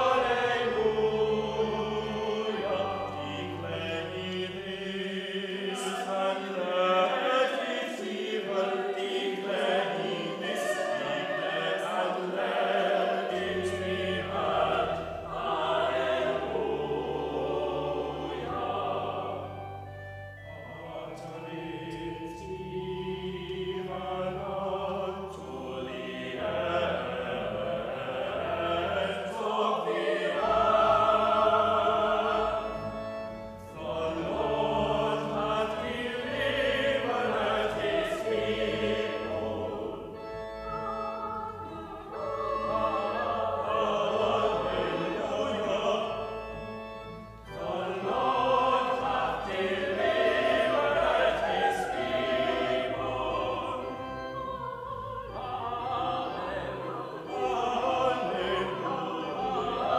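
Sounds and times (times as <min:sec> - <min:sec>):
low organ bass notes: 0:00.0 - 0:07.0, 0:07.6 - 0:59.9
choir singing: 0:00.0 - 0:59.9
organ playing: 0:00.0 - 0:59.9.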